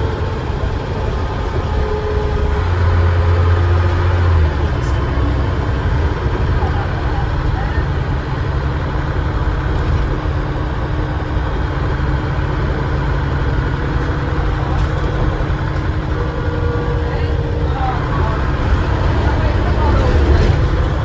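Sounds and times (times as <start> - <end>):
bus diesel engine rumbling: 0.0 - 21.0.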